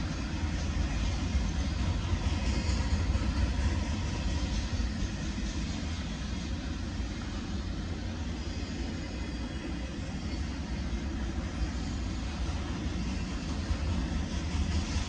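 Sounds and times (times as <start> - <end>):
steel train wheels on rails: 0.0 - 15.0.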